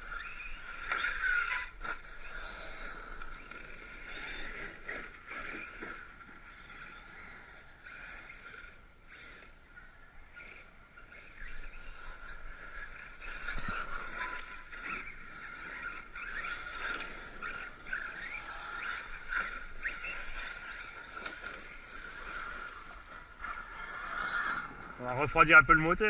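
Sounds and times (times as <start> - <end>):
chassis scraping and clicking: 0.0 - 6.9, 10.3 - 24.7
electric motor whining: 0.0 - 26.0.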